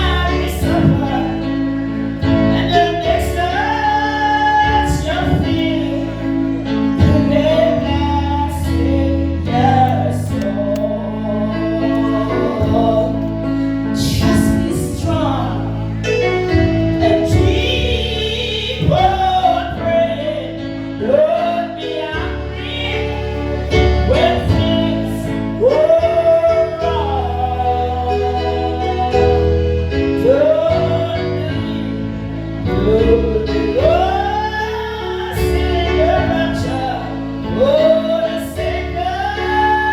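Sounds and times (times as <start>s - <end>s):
person singing gospel: 0.0s - 39.9s
sustained bass notes: 0.0s - 39.9s.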